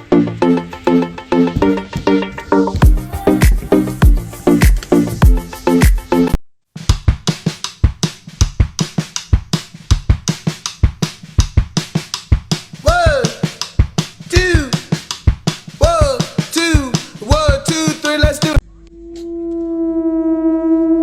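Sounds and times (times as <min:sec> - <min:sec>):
drum-kit beat: 0:01.6 - 0:18.6.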